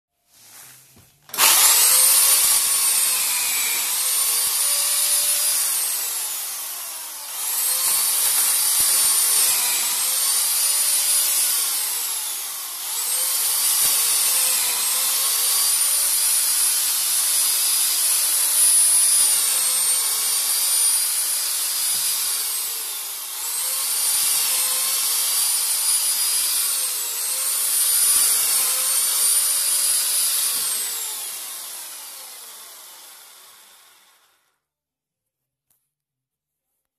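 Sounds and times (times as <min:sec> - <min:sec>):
electric chainsaw cutting wood: 0:01.3 - 0:34.6.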